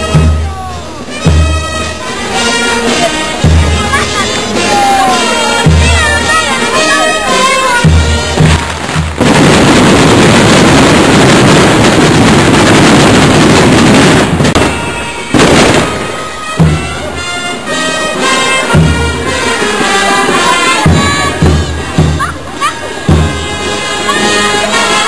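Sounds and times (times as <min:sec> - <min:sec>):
brass band music: 0:00.0 - 0:25.0
firecrackers crackling: 0:00.0 - 0:25.0.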